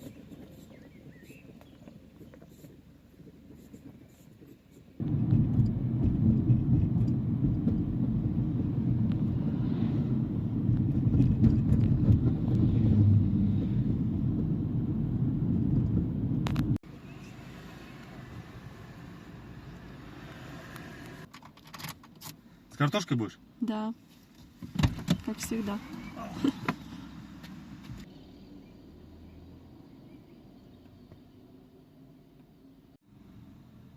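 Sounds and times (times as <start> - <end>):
car rumble: 0.0 - 21.4, 22.3 - 33.9.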